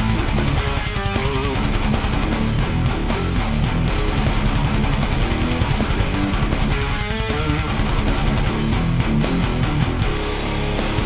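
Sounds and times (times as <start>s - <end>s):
distorted electric guitar riff: 0.0s - 11.0s.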